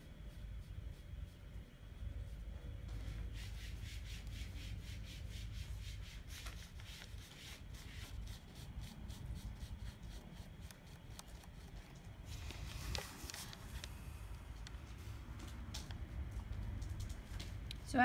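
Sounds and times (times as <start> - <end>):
paintbrush strokes on wood: 0.0 - 15.2.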